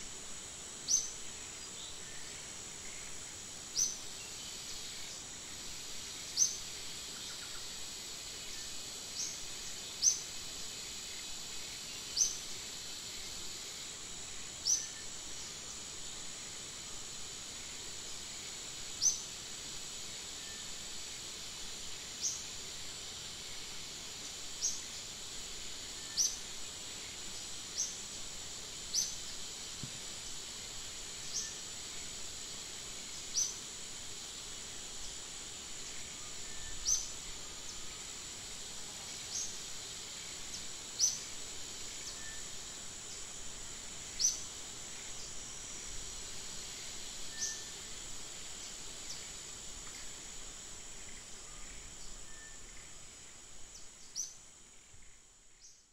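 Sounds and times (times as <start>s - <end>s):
high insect drone: 0.0s - 55.9s.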